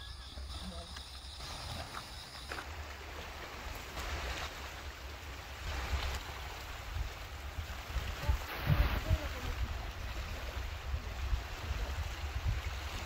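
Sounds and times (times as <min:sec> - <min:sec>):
sea surf washing: 0:00.0 - 0:13.0
wind rumbling on microphone: 0:00.0 - 0:13.0.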